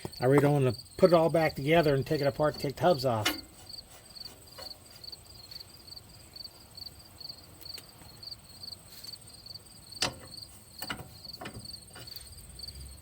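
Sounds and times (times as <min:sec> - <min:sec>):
crickets chirping: 0:00.0 - 0:02.1, 0:03.2 - 0:13.0.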